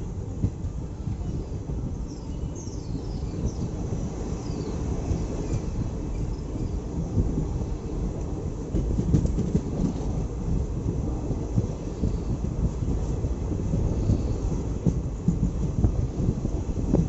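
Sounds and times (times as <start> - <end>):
train knocks and clatter: 0.0 - 17.0
train wheels rumbling on track: 0.0 - 17.0.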